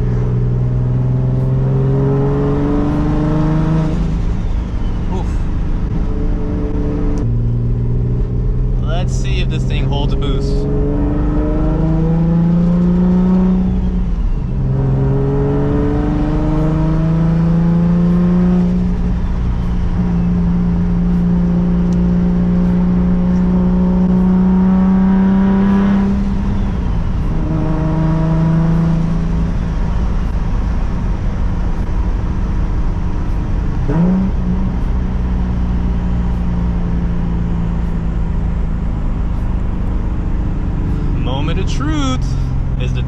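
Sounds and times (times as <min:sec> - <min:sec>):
car engine accelerating hard: 0:00.0 - 0:43.0.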